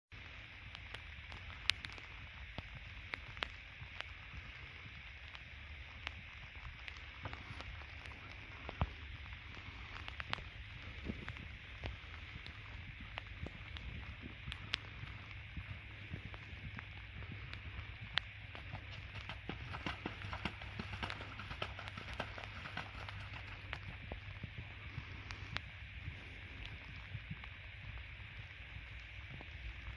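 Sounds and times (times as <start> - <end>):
rain hiss: 0.2 - 29.9
raindrops ticking on surfaces: 0.2 - 29.9
wind rumble on microphone: 0.2 - 29.9.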